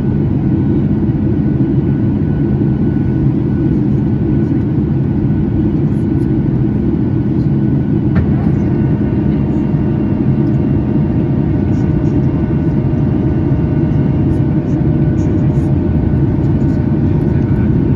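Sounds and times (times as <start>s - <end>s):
jet engines roaring: 0.0s - 17.9s.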